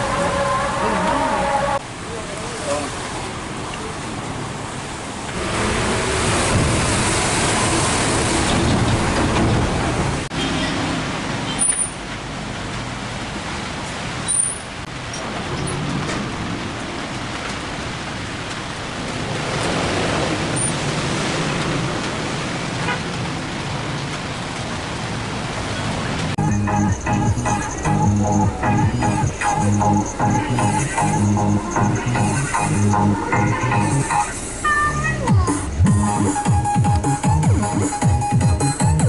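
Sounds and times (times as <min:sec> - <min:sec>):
road noise: 0:00.0 - 0:39.0.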